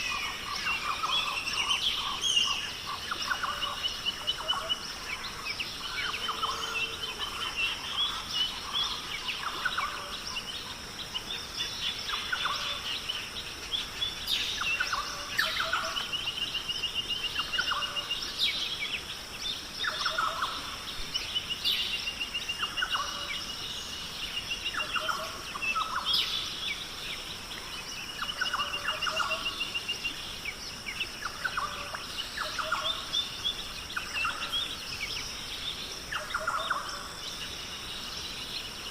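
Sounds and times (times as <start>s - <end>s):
steady high hiss: 0.0s - 38.9s
wild birds calling and singing: 0.0s - 38.9s.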